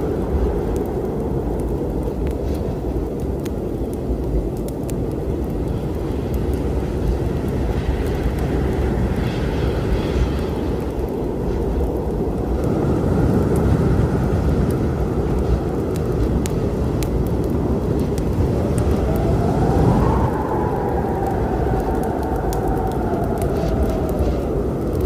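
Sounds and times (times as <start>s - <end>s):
rumble of thunder and wind: 0.0s - 25.0s
wood fire crackling: 0.0s - 25.0s.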